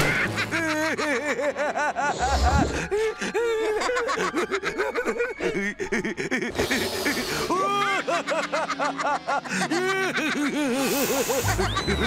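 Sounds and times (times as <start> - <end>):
cartoon characters laughing: 0.0 - 12.0.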